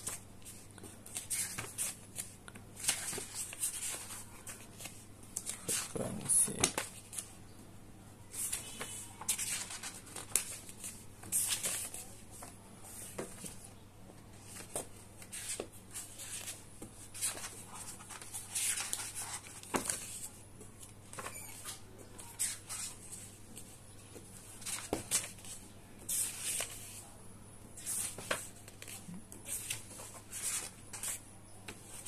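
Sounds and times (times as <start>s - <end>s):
book pages flipping: 0.0s - 7.3s, 8.3s - 13.7s, 14.4s - 27.0s, 27.8s - 32.0s.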